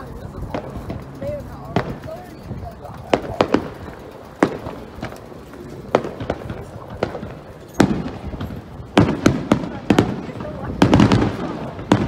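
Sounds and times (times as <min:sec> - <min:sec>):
fireworks shells bursting: 0:00.3 - 0:12.0.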